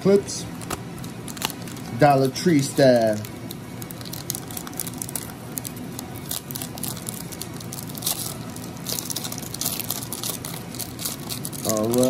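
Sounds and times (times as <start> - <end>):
foil wrapper crinkling and tearing: 0.6 - 12.0.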